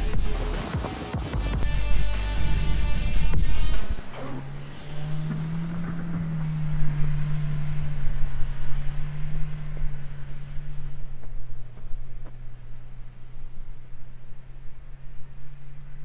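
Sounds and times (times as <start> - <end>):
car engine droning: 0.0 - 16.0
crackling hiss: 0.0 - 16.0.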